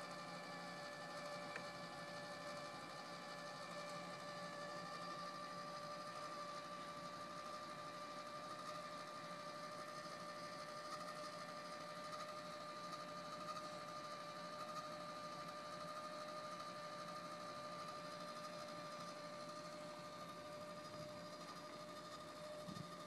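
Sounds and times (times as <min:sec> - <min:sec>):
small electric motor whining: 0:00.0 - 0:23.0.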